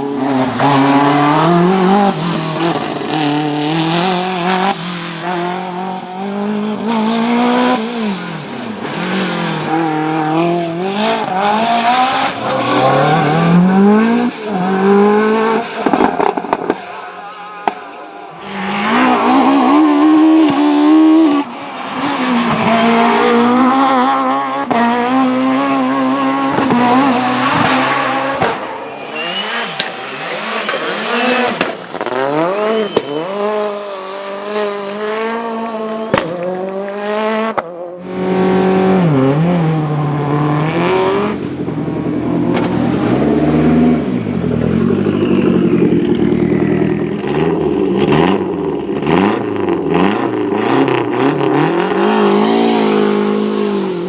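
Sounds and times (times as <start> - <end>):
rally car engines at high revs: 0.0 - 54.0.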